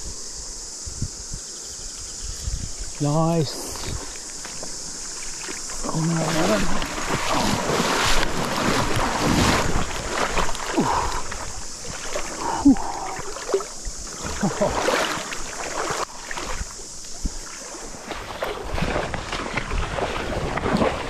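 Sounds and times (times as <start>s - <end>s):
cicadas droning: 0.0s - 21.0s
person wading through river: 2.8s - 21.0s.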